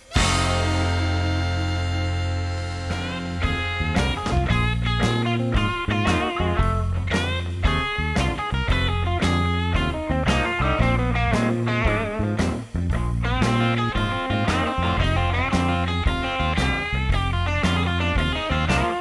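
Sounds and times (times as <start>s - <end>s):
bass and drums: 0.0s - 19.0s
blues-rock electric guitar lead: 0.0s - 19.0s.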